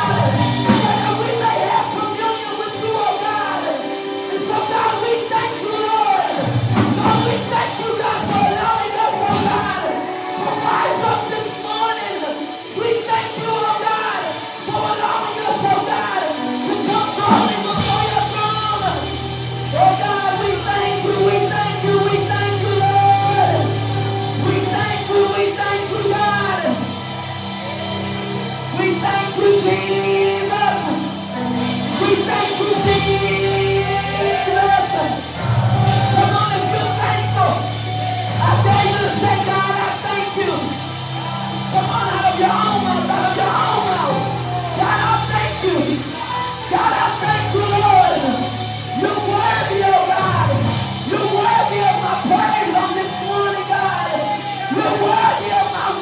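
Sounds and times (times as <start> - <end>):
gospel band playing: 0.0 - 56.0
singers holding long notes: 0.0 - 56.0.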